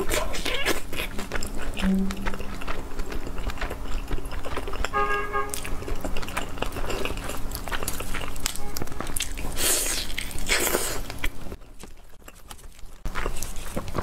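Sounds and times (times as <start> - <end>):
wet sticky chewing: 0.0 - 14.0.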